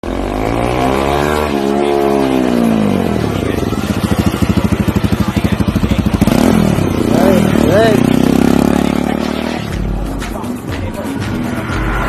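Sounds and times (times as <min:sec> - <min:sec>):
motorcycle engine revving and idling: 0:00.0 - 0:10.1.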